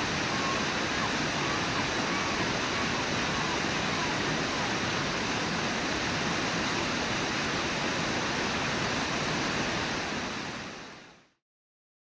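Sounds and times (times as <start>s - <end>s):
river flowing over rapids: 0.0s - 11.4s.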